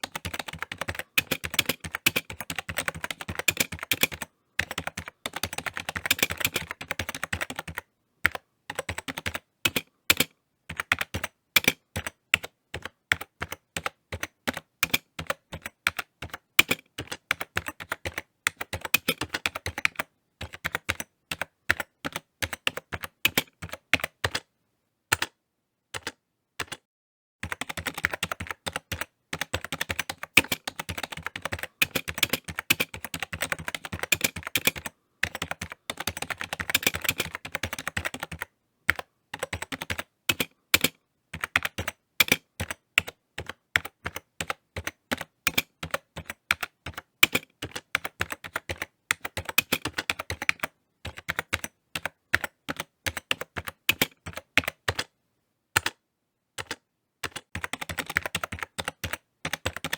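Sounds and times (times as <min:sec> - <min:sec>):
typing on computer keyboard: 0:00.0 - 0:24.5, 0:25.1 - 0:25.4, 0:26.0 - 0:55.1, 0:55.8 - 0:56.0, 0:56.6 - 0:59.9.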